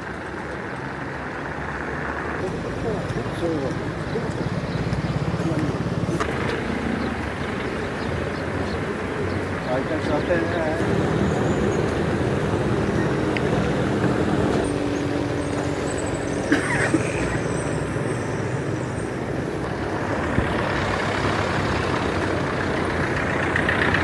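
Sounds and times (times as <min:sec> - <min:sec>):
street traffic noise: 0:00.0 - 0:24.0
vehicle engine running: 0:00.0 - 0:24.0.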